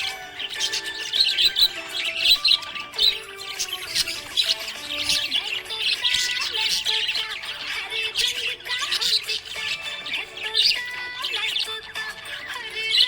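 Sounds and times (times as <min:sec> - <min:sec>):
budgerigar chirping and warbling: 0:00.0 - 0:13.0.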